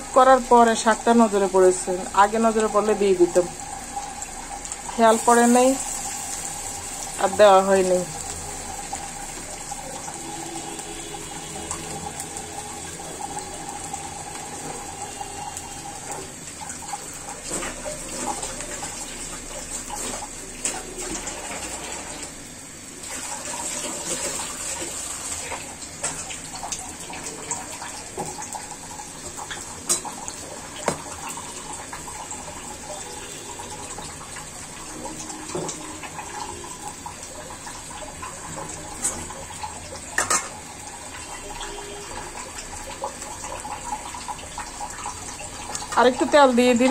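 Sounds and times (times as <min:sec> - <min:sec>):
fritters sizzling in oil: 0:00.0 - 0:46.9.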